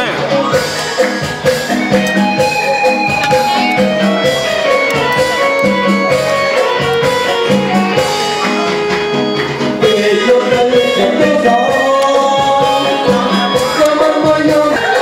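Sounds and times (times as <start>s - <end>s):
plucked guitar music with beat: 0.0s - 15.0s.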